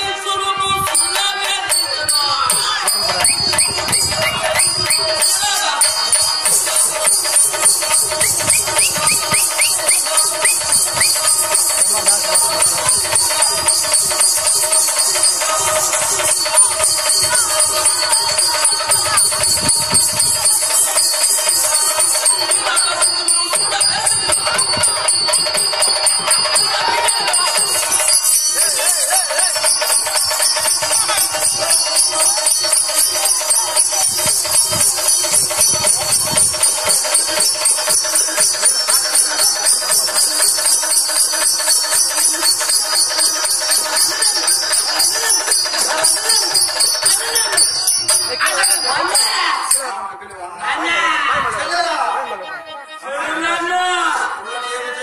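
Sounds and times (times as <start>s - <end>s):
hand drum fast rhythm: 0.8s - 49.8s
harmonium held tones: 0.8s - 49.8s
ankle bells jingling: 0.8s - 50.0s.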